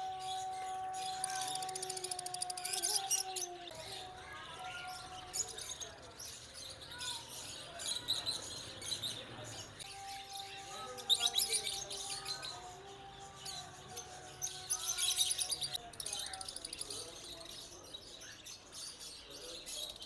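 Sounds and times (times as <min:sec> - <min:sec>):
faint background music: 0:00.0 - 0:20.0
finches chirping and twittering: 0:00.3 - 0:20.0.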